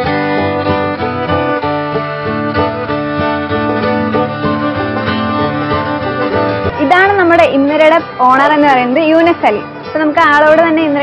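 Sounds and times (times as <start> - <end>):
string instruments playing a tune: 0.0 - 11.0.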